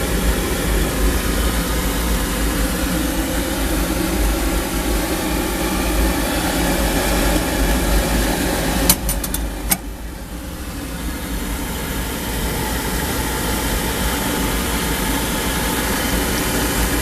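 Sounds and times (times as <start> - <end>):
oil furnace burner rushing: 0.0 - 17.0.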